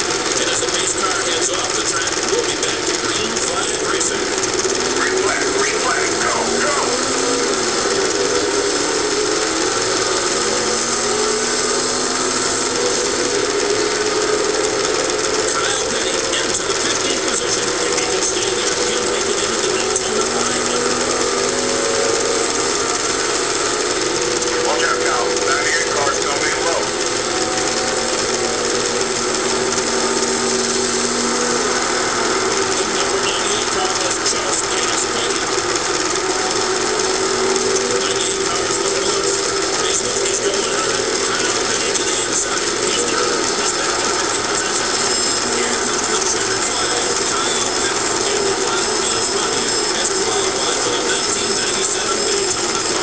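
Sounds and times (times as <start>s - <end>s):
race car engine buzzing drone: 0.0s - 53.0s.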